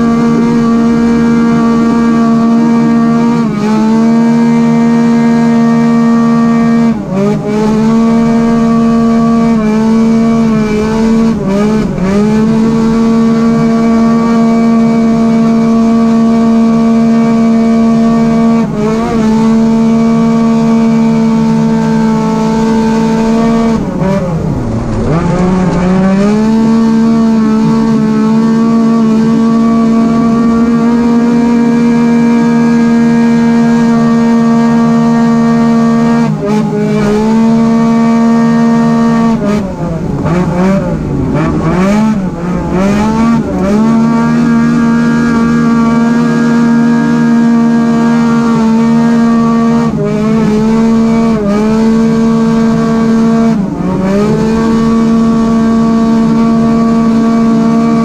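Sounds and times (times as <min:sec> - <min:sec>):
engine running at high revs: 0:00.0 - 0:58.0.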